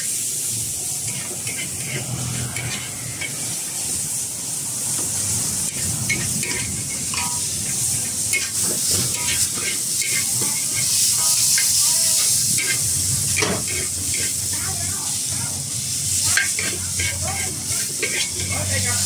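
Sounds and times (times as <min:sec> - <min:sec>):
noodles sizzling in a wok: 0:00.0 - 0:19.0
metal ladle scraping a wok: 0:00.5 - 0:14.5, 0:15.9 - 0:19.0.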